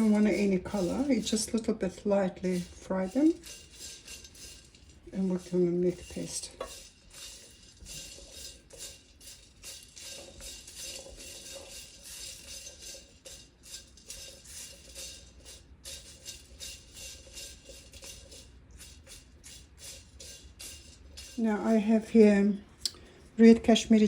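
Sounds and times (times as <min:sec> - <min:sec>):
spatula stirring spices in wok: 0:00.0 - 0:24.0.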